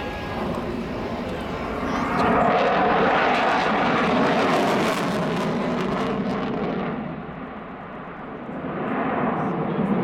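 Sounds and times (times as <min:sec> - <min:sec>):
jet flying past: 0:00.0 - 0:10.0.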